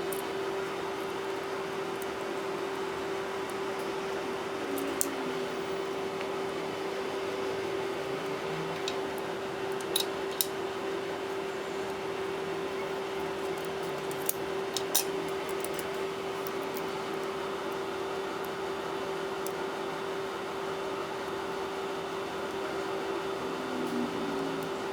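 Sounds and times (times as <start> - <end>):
electrical hum: 0.0 - 24.9.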